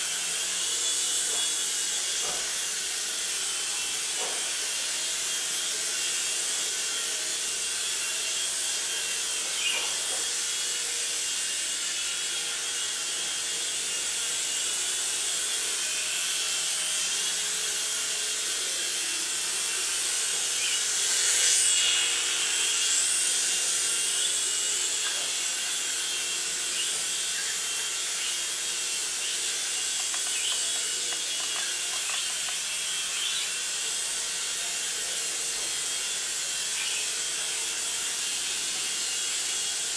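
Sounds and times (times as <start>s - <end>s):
toy helicopter rotors whirring: 0.0s - 39.9s.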